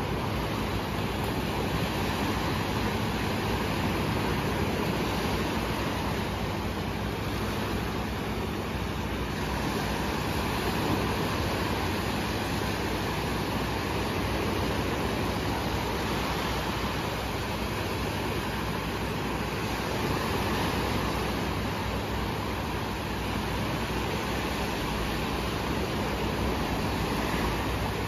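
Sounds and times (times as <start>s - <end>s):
small waves washing on sand: 0.0s - 28.0s.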